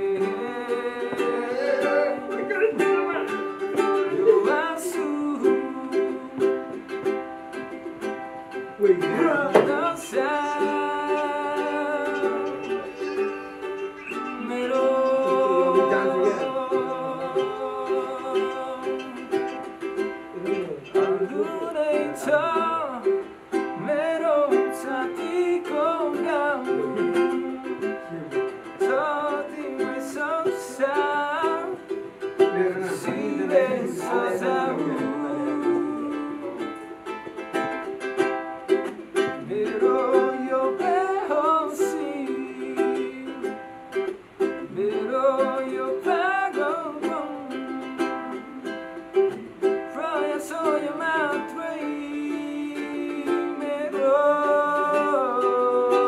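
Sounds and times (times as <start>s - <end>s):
man singing: 0.0s - 56.0s
plucked strings: 0.0s - 56.0s.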